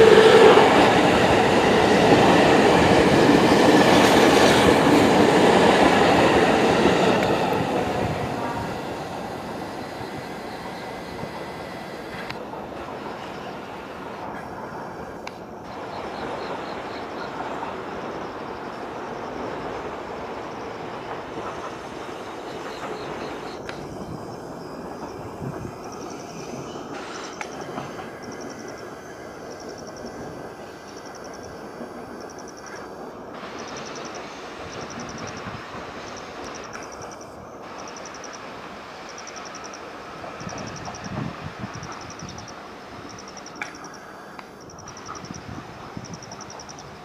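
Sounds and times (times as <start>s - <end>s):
train rolling rumble: 0.0s - 47.0s.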